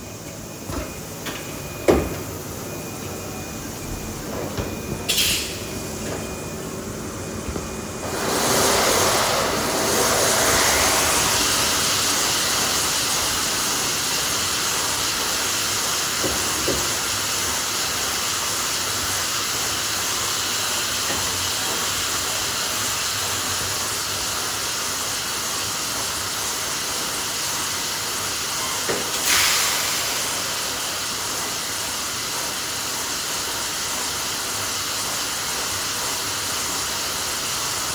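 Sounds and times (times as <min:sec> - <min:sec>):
factory machinery hissing: 0:00.0 - 0:37.9.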